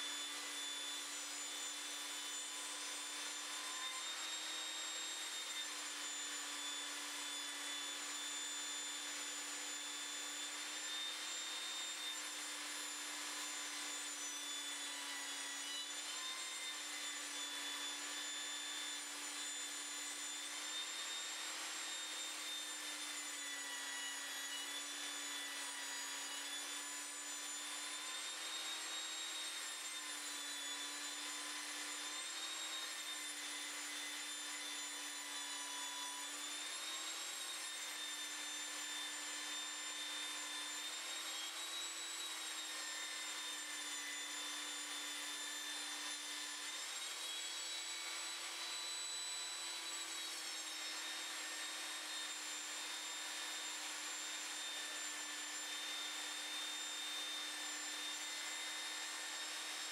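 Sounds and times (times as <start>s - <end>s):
table saw motor whine: 0.0s - 59.9s.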